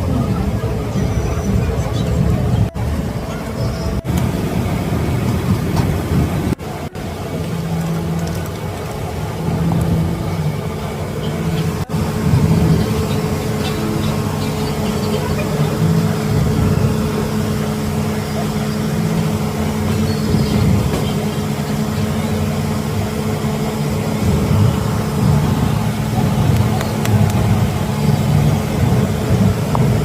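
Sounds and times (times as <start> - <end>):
road traffic engine hum: 0.0 - 30.0.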